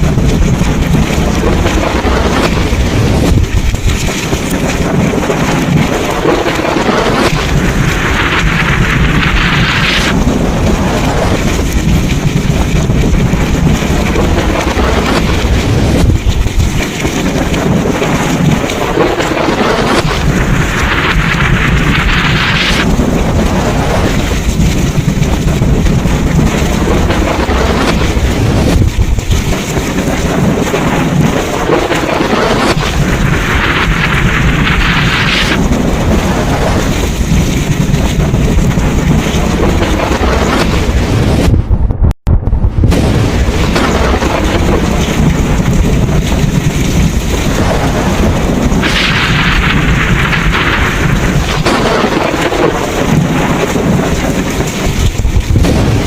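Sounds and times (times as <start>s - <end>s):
deep thunder rumble: 0.0s - 56.0s
heavy rain: 0.0s - 56.0s
wind: 0.0s - 56.0s.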